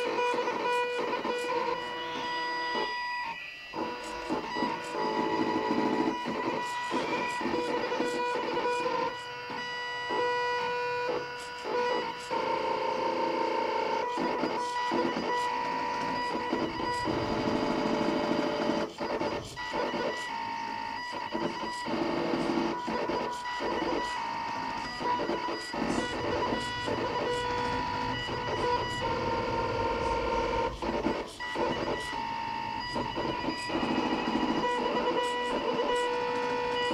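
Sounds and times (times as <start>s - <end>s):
motors whining: 0.0s - 36.9s.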